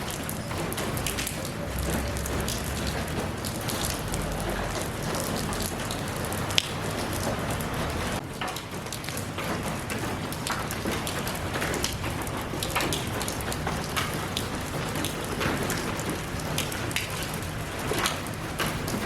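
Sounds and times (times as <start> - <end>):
rain pattering on hard surface: 0.0 - 19.0.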